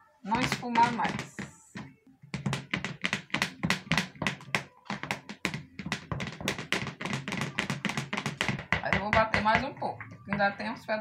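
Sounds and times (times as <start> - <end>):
spatula knocking in blender jar: 0.3 - 10.6.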